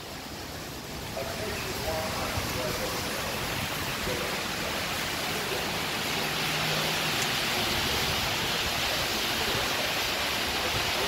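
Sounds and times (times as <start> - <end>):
rain on platform and metal bench: 0.0 - 11.0.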